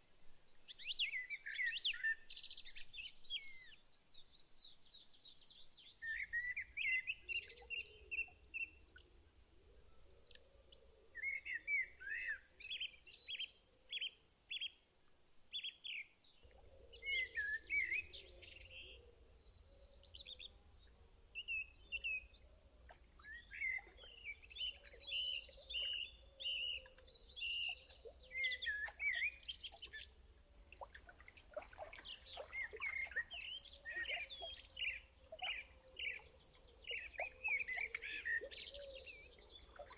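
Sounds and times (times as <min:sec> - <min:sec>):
songbirds chirping and trilling: 0:00.0 - 0:14.9, 0:15.5 - 0:39.9.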